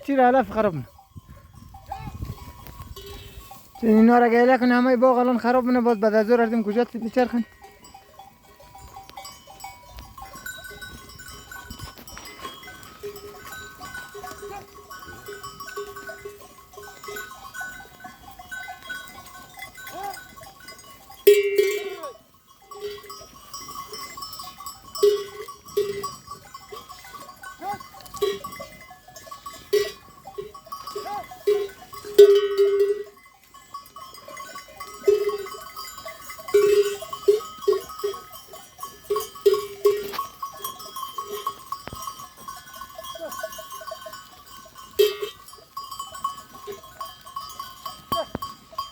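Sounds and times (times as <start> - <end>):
sheep bells clanking: 0.0 - 48.9.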